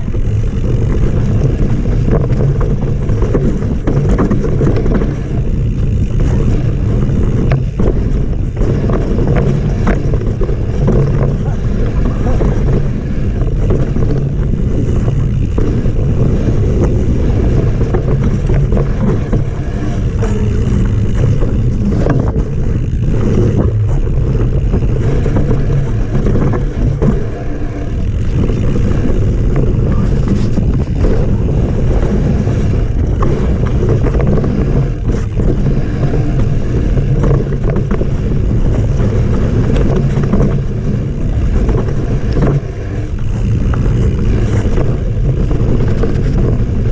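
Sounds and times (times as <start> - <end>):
bike knocks and rattles: 0.0 - 46.9
tyre noise on dirt trail: 0.0 - 46.9
wind rumble on microphone: 0.0 - 46.9.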